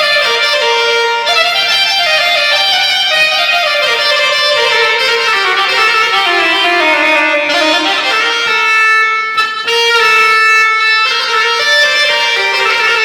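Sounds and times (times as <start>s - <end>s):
keyboard playing violin-like melody: 0.0s - 13.0s.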